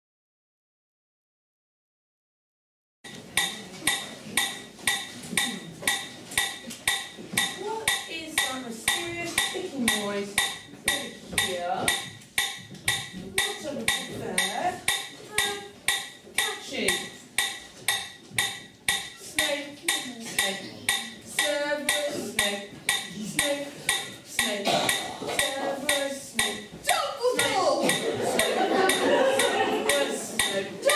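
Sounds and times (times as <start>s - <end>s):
sharp ticking: 3.1s - 30.9s.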